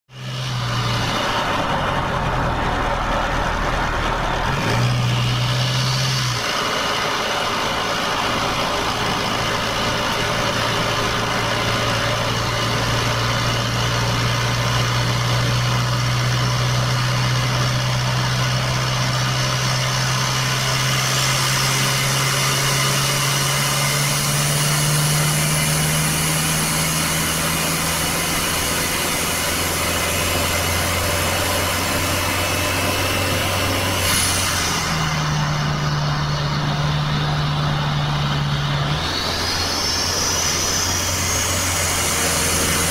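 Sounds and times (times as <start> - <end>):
diesel engine droning: 0.1 - 42.9
wind and tyre hiss: 5.4 - 42.9.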